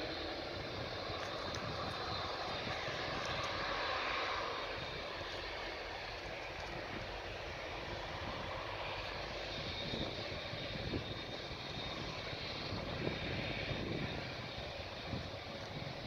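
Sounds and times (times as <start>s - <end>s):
distant jet engines at takeoff: 0.0s - 16.0s.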